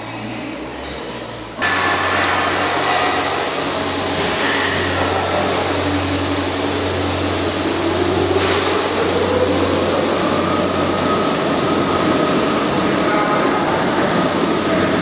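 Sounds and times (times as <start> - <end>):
machinery humming: 1.6 - 15.0.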